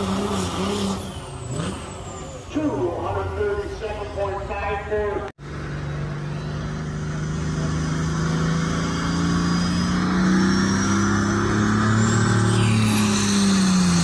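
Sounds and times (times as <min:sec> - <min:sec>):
vehicle engine under heavy load: 0:00.0 - 0:14.0.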